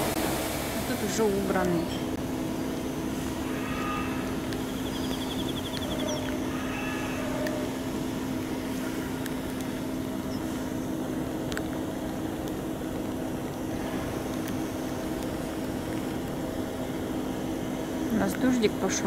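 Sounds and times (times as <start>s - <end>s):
engine drone: 0.0s - 19.0s.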